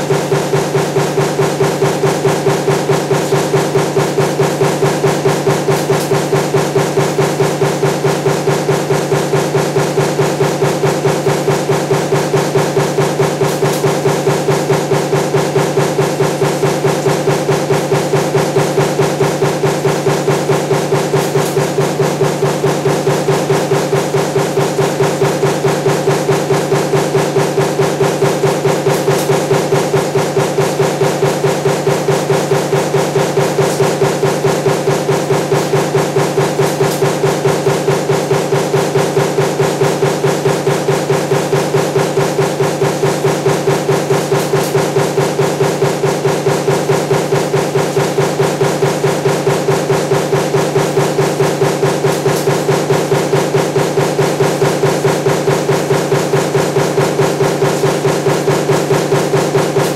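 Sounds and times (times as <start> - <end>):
constant machine hum: 0.0 - 59.9
power press stamping: 0.0 - 59.9.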